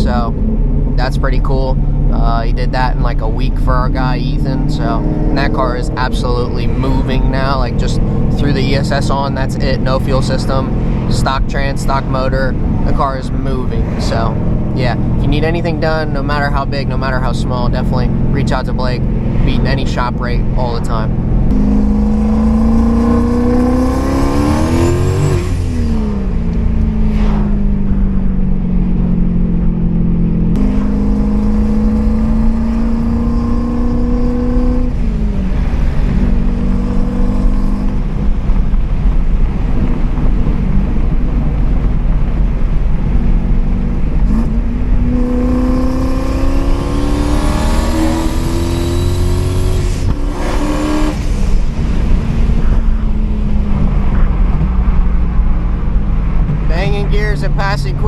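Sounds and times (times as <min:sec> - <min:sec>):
car engine revving under load: 0:00.0 - 0:58.0.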